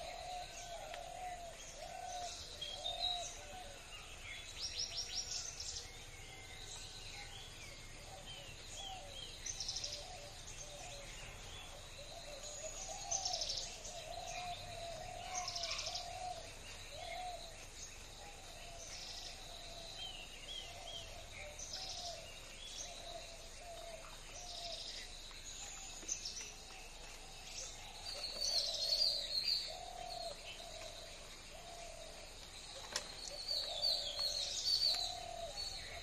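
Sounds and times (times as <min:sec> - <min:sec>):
birds chirping and twittering: 0:00.0 - 0:36.0.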